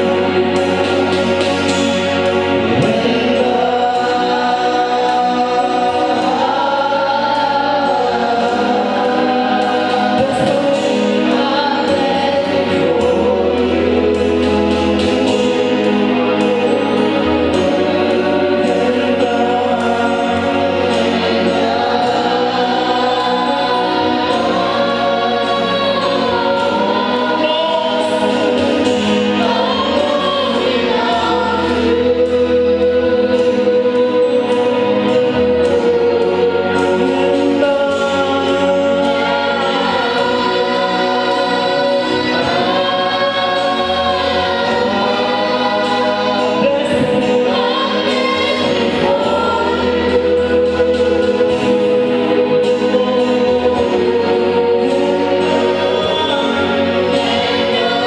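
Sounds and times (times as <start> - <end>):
gospel choir singing: 0.0 - 58.0
instrumental accompaniment with bass: 0.0 - 58.0.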